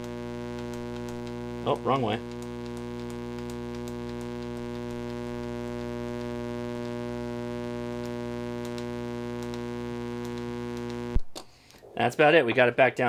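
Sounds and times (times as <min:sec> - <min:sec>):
faint clicks: 0:00.0 - 0:07.0, 0:07.6 - 0:11.8
electrical buzzing hum: 0:00.0 - 0:13.0.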